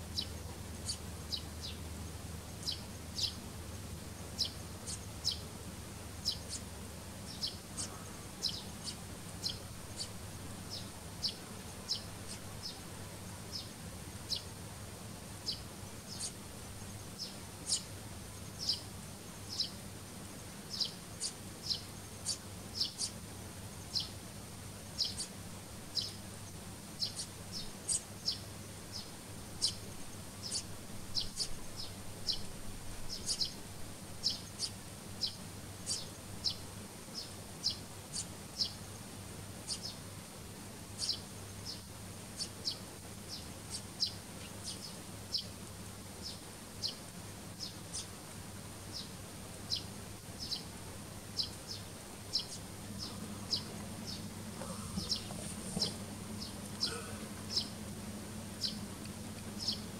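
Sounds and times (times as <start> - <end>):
sparrows chirping: 0.0 - 40.2, 40.8 - 59.9.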